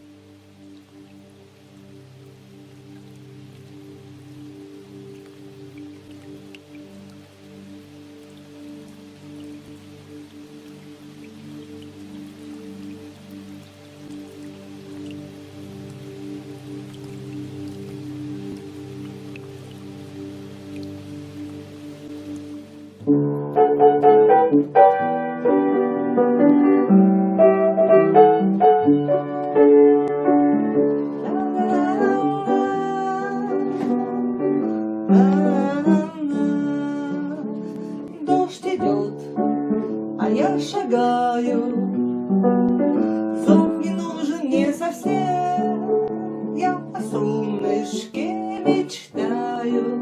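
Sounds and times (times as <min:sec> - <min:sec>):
keyboard: 0:00.0 - 0:50.0.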